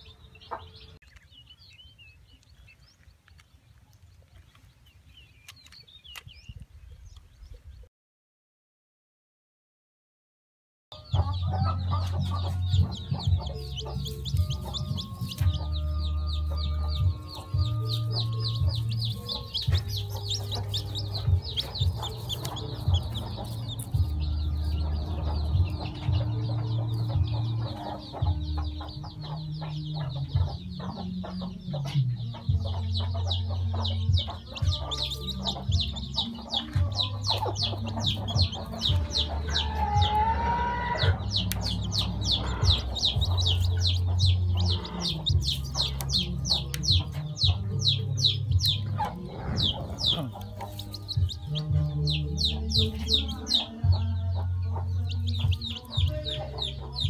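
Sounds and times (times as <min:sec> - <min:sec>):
chick peeping: 0:00.0 - 0:07.9, 0:10.9 - 0:57.0.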